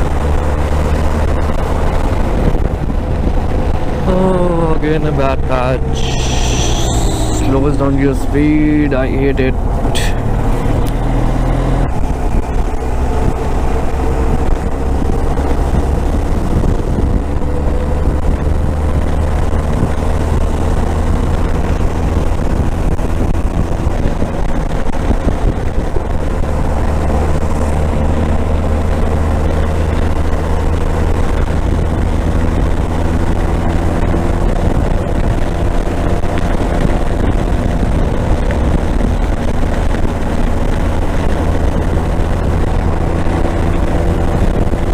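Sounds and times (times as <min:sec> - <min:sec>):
wind and road noise: 0:00.0 - 0:44.9.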